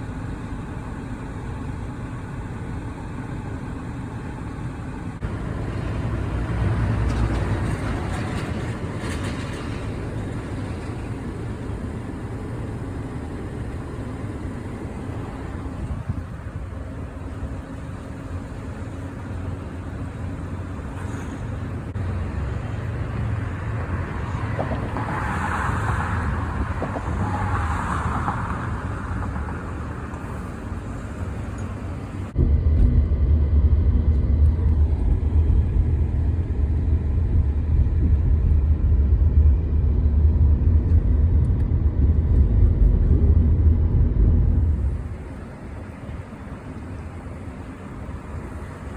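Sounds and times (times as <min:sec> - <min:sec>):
deep engine rumble: 0:00.0 - 0:48.9
vehicle engines running: 0:00.0 - 0:48.9.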